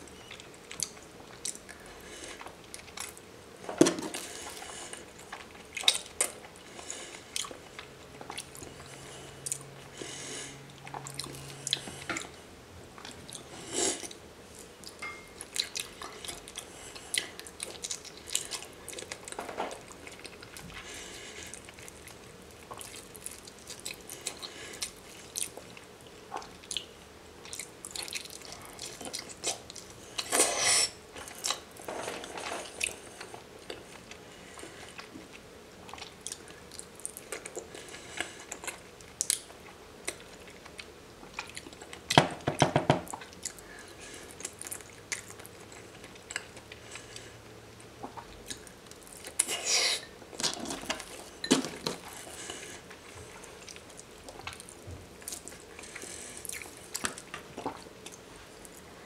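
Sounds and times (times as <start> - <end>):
chewing soft food: 0.0 - 3.3, 4.1 - 42.2, 43.1 - 59.0.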